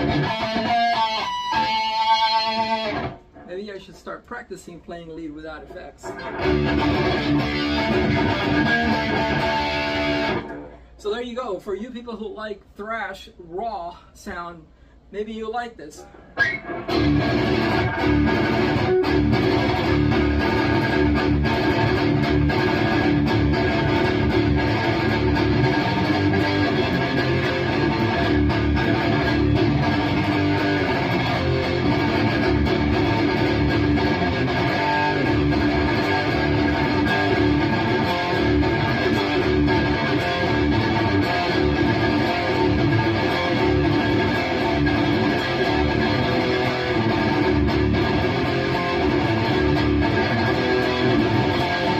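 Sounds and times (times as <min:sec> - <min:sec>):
heavy electric guitar riffing: 0:00.0 - 0:03.6, 0:06.1 - 0:11.0, 0:16.2 - 0:51.9.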